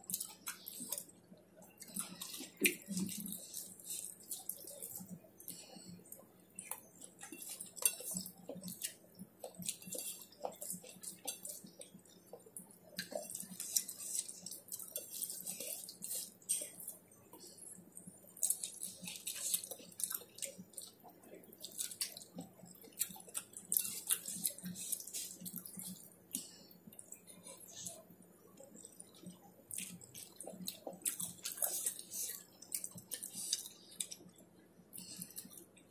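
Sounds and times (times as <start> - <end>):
chewing: 0.0 - 35.9.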